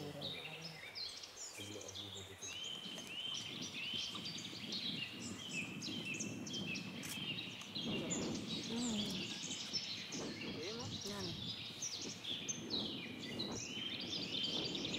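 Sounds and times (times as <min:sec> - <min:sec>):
birds chirping and calling: 0:00.0 - 0:14.9.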